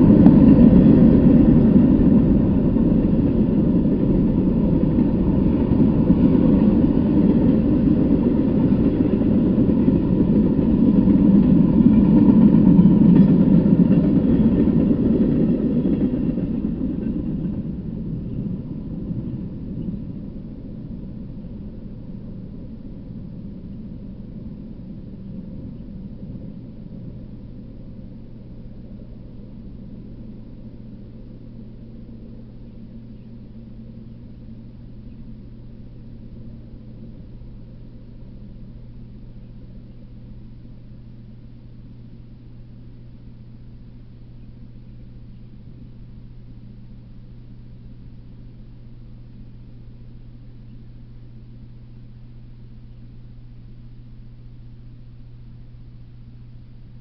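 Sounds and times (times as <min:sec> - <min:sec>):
low rumble: 0:00.0 - 0:57.0
steady low hum: 0:00.0 - 0:57.0.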